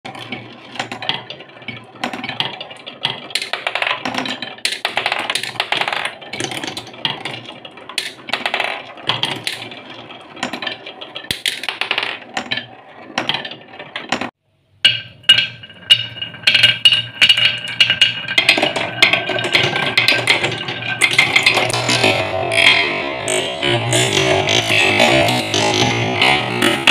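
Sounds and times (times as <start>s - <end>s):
marbles clacking on wooden track: 0.1s - 26.9s.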